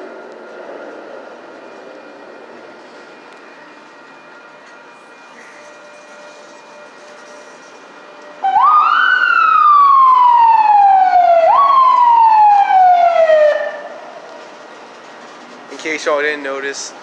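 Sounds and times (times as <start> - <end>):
wailing warning siren: 0.0 - 16.3.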